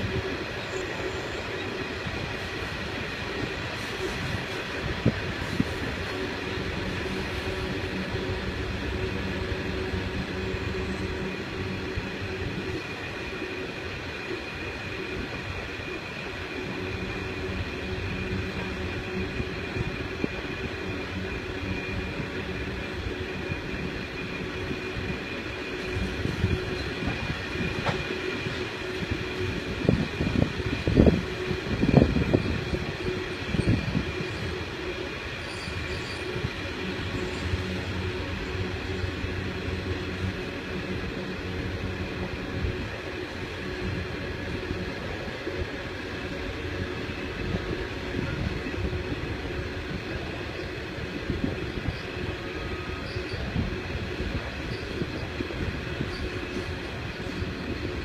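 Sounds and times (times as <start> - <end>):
high whine: 0.0 - 58.0
train wagons rumbling on rails: 0.0 - 58.0.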